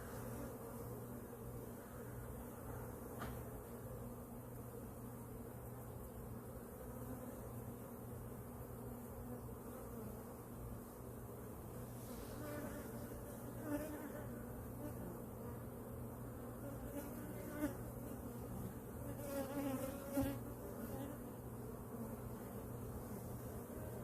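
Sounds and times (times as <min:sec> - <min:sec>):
bees flying close past: 0:00.0 - 0:24.0
honeybees buzzing: 0:00.0 - 0:24.0.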